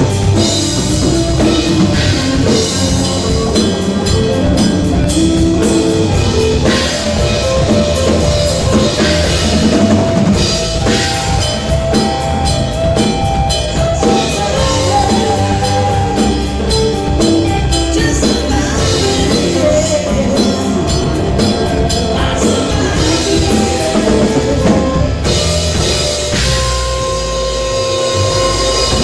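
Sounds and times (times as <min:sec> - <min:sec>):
drum kit beat: 0:00.0 - 0:29.0
rock band playing: 0:00.0 - 0:29.0.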